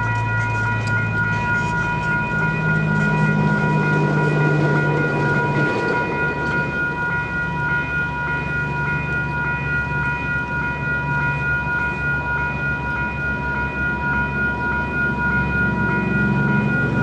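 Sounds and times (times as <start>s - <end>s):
freight train wagons rumbling: 0.0s - 17.0s
level crossing bells ringing: 0.0s - 17.0s.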